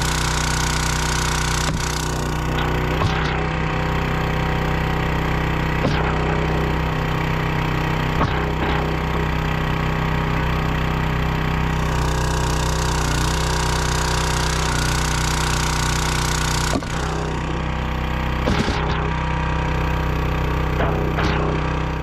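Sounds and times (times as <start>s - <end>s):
harsh noisy grinding: 0.0s - 22.0s
small gas engine running: 0.0s - 22.0s.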